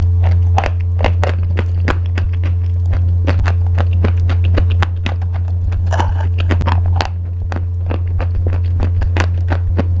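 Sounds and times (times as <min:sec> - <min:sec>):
crunchy pasta being chewed: 0:00.0 - 0:10.0
steady low hum: 0:00.0 - 0:10.0.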